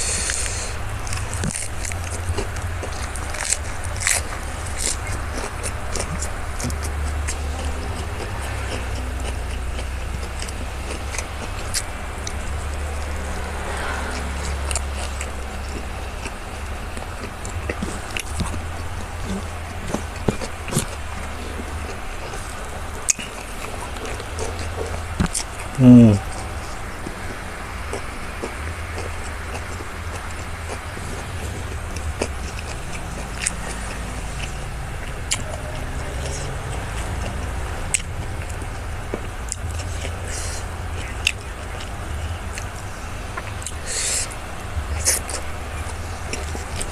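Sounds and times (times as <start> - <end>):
chewing mouth sounds: 0.0 - 46.9
low background rumble: 0.0 - 46.9.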